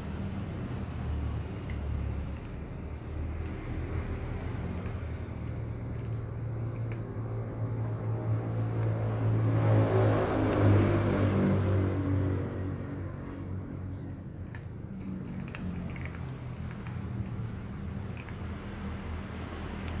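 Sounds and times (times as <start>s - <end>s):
low mechanical rumble: 0.0s - 20.0s
cats crunching dry kibble: 0.2s - 11.2s, 13.9s - 20.0s.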